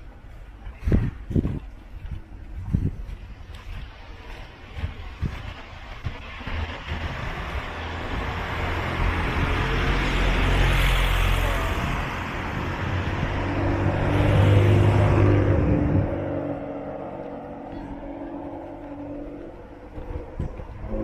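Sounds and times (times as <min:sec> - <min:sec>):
vehicle engine: 0:00.0 - 0:21.0
car passing: 0:03.3 - 0:21.0.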